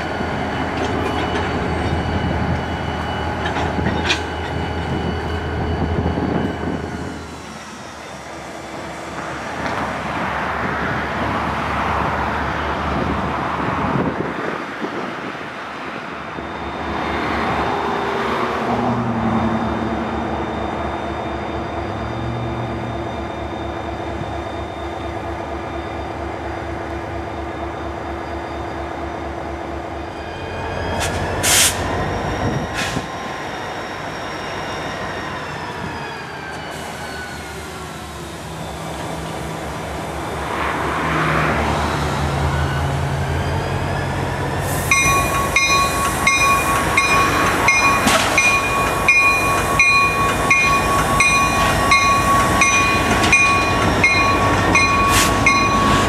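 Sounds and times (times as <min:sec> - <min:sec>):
freight cars rolling on rails: 0:00.0 - 0:24.6, 0:30.2 - 0:56.0.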